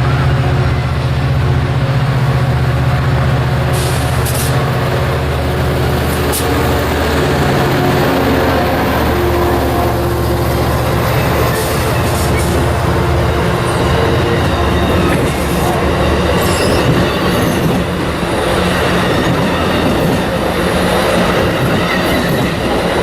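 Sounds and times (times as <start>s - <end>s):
locomotive engine droning: 0.0s - 23.0s.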